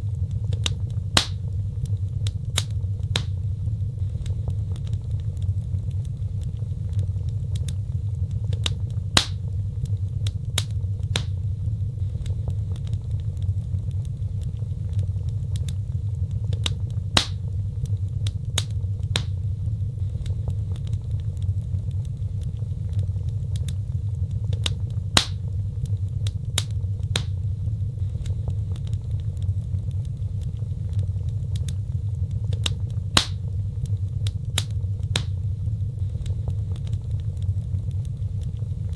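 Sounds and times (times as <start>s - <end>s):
low rumble: 0.0s - 38.9s
wood fire crackling and popping: 0.0s - 38.9s.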